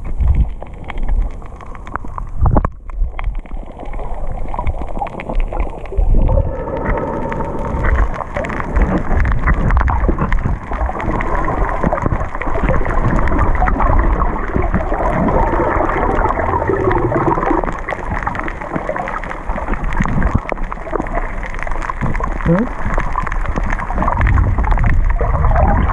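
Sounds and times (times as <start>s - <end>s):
muffled underwater churning rush: 0.0s - 25.9s.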